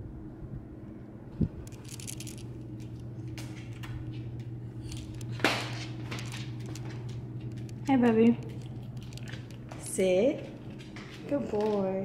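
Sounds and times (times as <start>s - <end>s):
steady low hum: 0.0s - 12.0s
light rattling and scraping: 1.6s - 12.0s.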